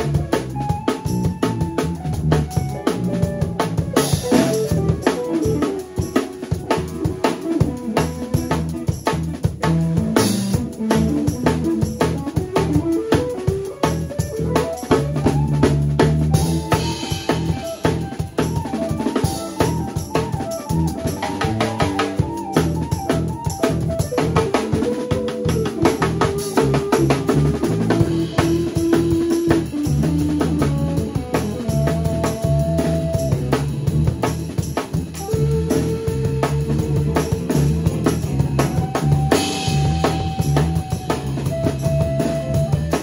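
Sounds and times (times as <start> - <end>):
drum kit playing: 0.0 - 43.0
melodic lead line: 0.0 - 43.0
walking bass line: 0.0 - 43.0.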